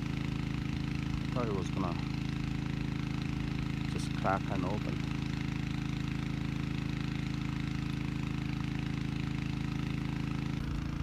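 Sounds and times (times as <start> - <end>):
machine running steadily: 0.0 - 11.0.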